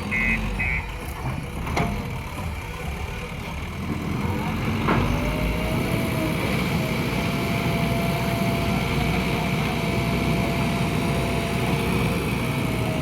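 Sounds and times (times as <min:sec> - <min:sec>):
diesel engine running high revs: 0:00.0 - 0:13.0.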